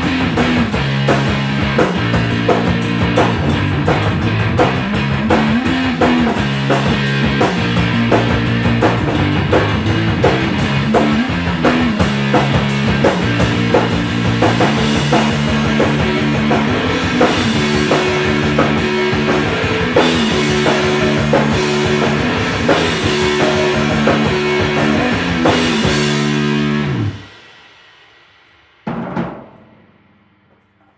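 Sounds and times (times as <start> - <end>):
rock music with guitar and drums: 0.0 - 27.4.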